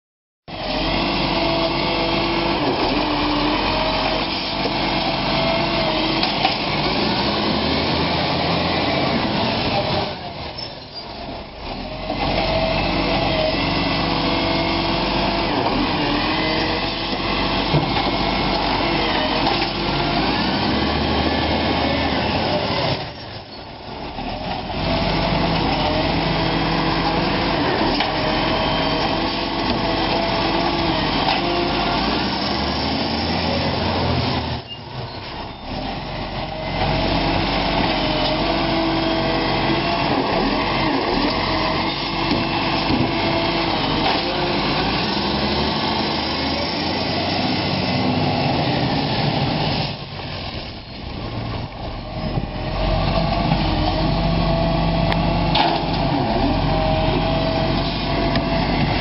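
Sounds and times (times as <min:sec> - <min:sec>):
garbage truck running with whine: 0:00.5 - 0:59.0.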